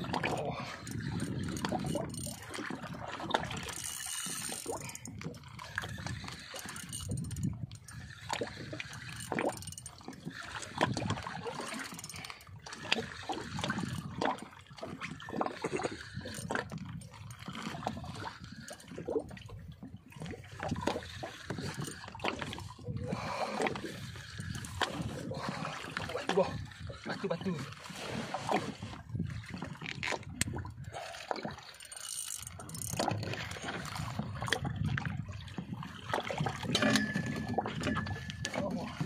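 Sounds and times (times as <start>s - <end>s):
water lapping against boat hull: 0.0s - 39.0s.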